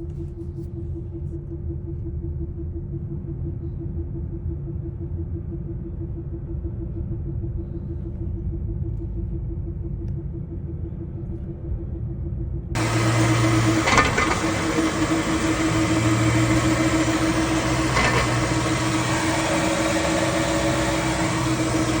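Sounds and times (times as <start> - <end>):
vehicle running with low hum: 0.0 - 22.0.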